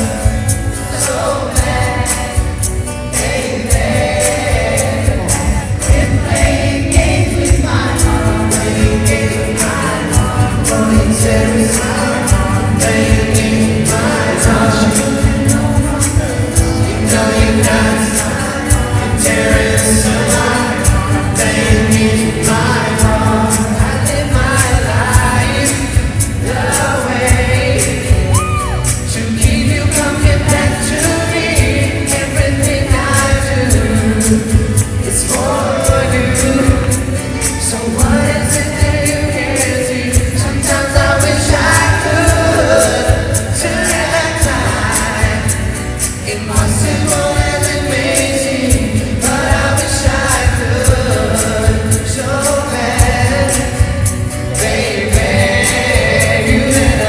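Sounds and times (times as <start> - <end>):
male vocal group singing: 0.0 - 57.0
steady drum beat: 0.0 - 57.0.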